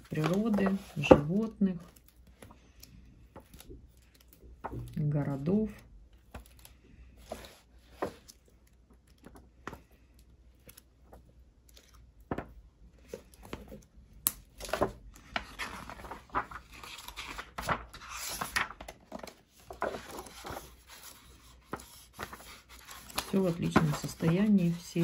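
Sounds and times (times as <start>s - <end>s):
pages turning: 0.0s - 5.0s, 6.2s - 25.0s.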